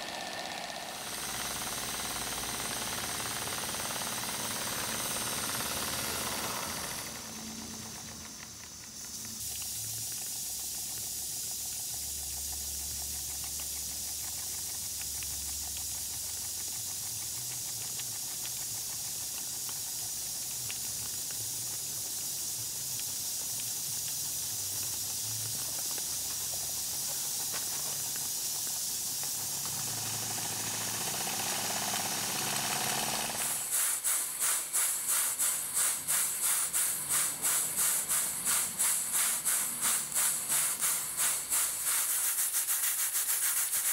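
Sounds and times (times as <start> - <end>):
model steam engine chuffing: 0.0 - 9.6, 10.2 - 43.9
model steam engine hissing: 0.0 - 43.9.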